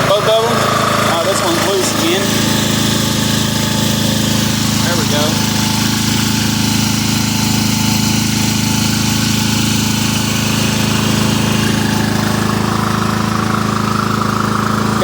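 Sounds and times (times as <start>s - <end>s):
lawn mower engine idling fast: 0.0s - 15.0s.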